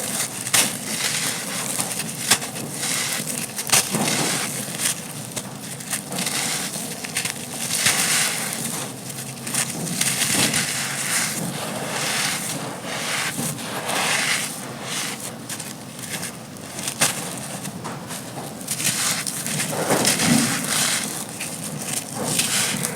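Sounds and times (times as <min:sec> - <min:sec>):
sand-cement chunks crumbling: 0:00.0 - 0:22.9.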